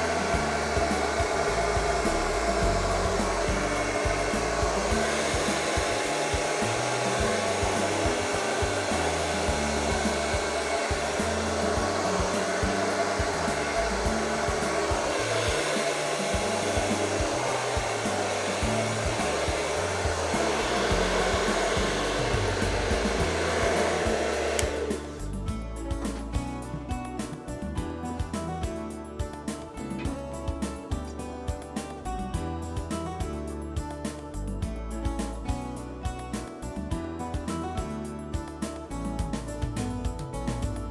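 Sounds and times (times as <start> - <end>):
hair dryer blowing: 0.0 - 34.5
background music: 0.0 - 40.9.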